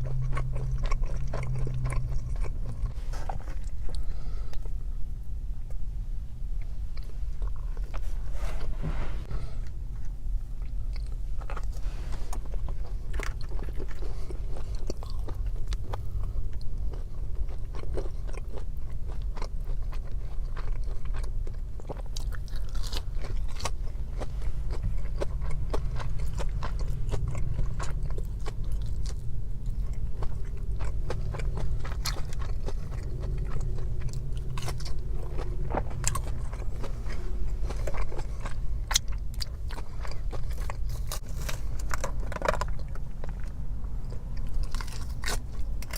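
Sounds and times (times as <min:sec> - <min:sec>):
biting and chewing: 0:00.0 - 0:04.8, 0:10.0 - 0:45.9
crunching: 0:00.0 - 0:04.8, 0:10.0 - 0:45.9
low steady hum: 0:00.0 - 0:45.9.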